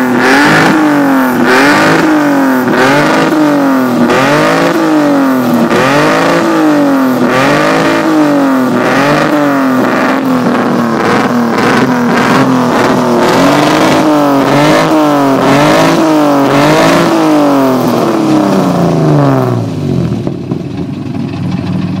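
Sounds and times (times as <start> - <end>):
racing engine revving: 0.0 - 20.5.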